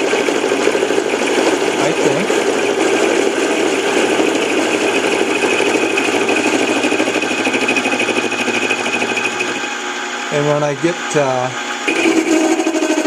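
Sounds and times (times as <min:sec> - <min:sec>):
lathe motor whine: 0:00.0 - 0:13.0.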